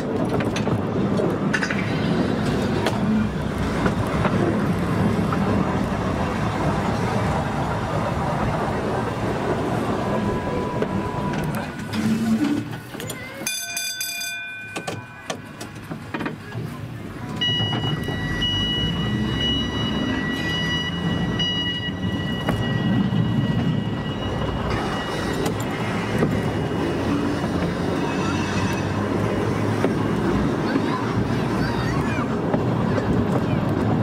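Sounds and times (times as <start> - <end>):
wheels rumbling on rails: 0.0 - 34.0.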